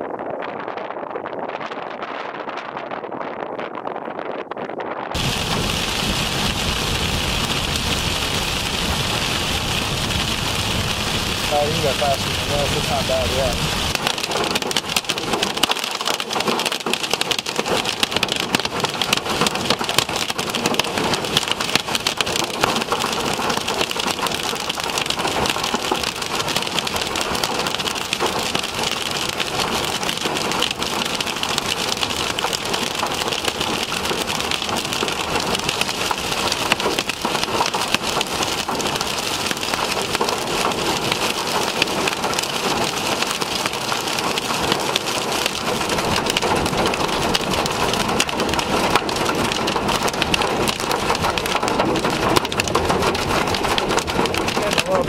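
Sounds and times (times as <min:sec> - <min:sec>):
heavy rain and hail on vehicle: 0:05.2 - 0:55.0.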